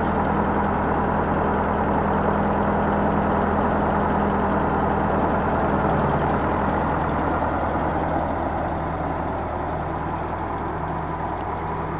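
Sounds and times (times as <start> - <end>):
tractor engine idling: 0.0 - 11.9.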